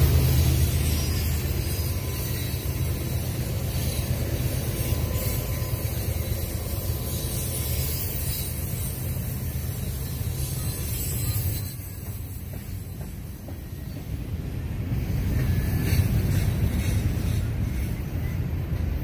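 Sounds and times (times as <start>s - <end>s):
freight train rolling past: 0.0s - 19.0s.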